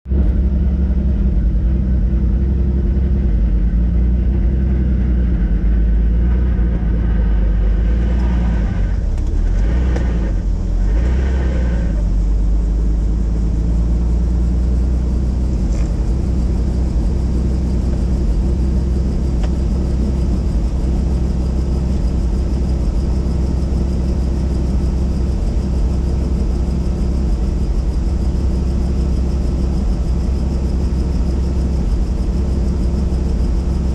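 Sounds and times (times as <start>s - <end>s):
helicopter engine and rotor: 0.4s - 33.9s.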